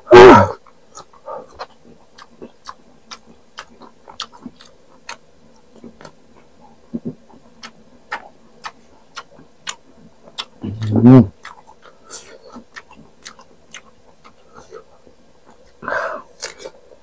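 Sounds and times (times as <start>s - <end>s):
crunchy chewing: 0.4s - 17.0s.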